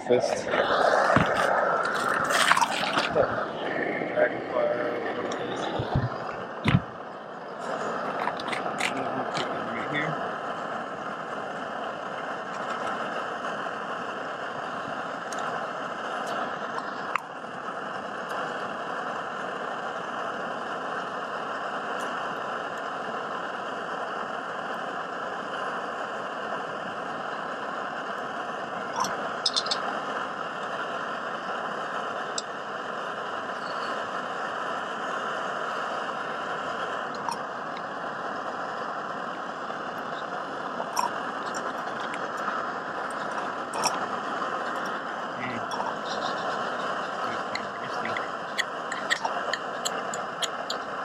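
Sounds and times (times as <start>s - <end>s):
camp stove burner hissing: 0.0s - 51.0s.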